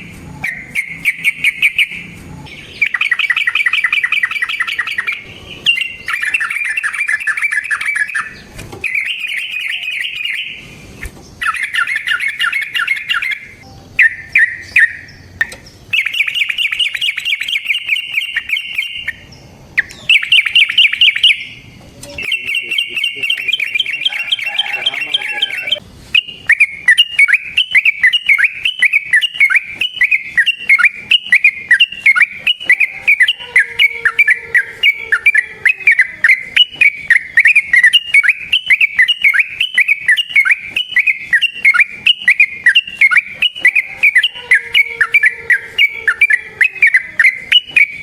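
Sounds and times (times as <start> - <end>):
bulbul singing whistled notes: 0.0 - 48.0.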